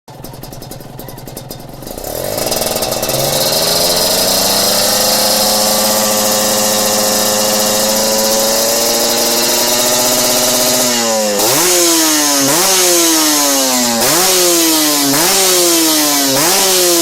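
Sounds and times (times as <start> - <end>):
two-stroke motorcycle engine revving: 0.1 - 17.0.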